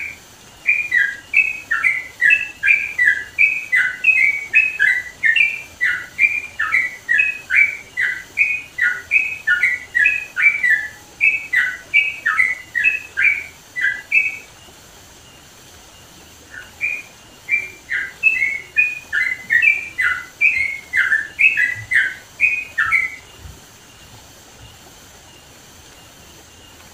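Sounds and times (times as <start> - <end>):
bulbul singing chattering notes: 0.0 - 26.8.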